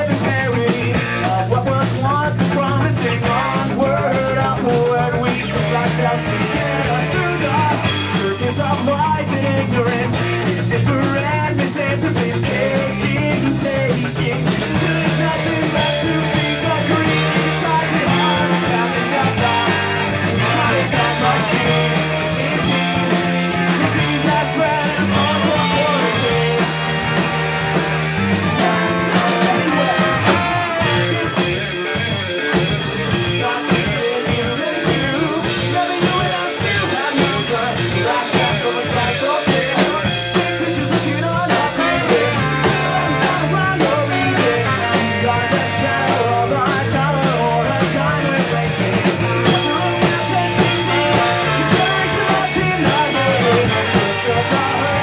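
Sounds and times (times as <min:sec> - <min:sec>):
bass guitar: 0:00.0 - 0:55.0
drums: 0:00.0 - 0:55.0
electric guitar: 0:00.0 - 0:55.0
ska-punk band playing live: 0:00.0 - 0:55.0.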